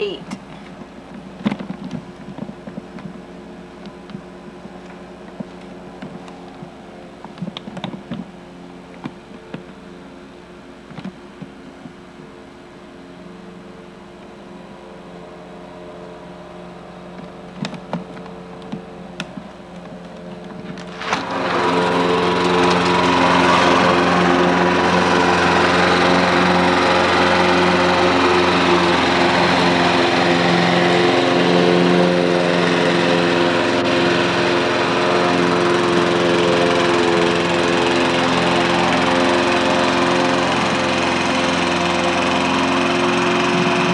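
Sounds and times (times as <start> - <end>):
lawn mower running: 0.0 - 10.7, 12.9 - 43.9.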